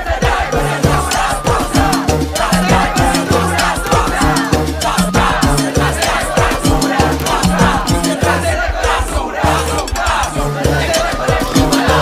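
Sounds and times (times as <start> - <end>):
upbeat dance music: 0.0 - 12.0.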